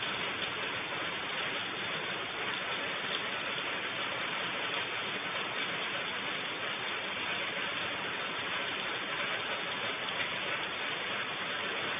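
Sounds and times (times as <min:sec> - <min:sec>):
rain hissing: 0:00.0 - 0:11.9.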